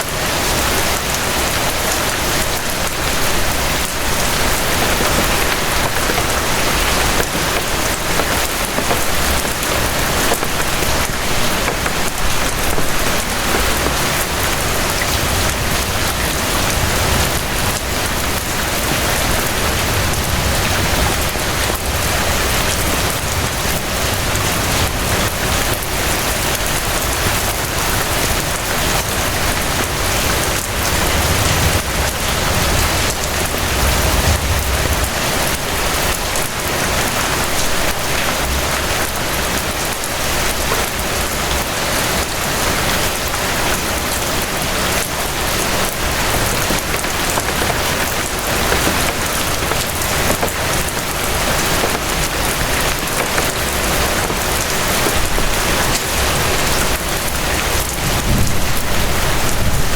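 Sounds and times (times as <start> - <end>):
rain patter on a surface: 0.0 - 59.9.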